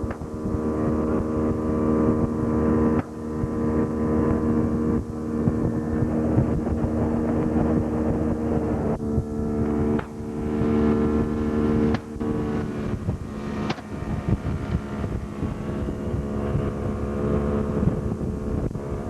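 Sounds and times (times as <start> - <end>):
boat engine running: 0.0 - 19.0
wind on microphone: 0.0 - 19.0.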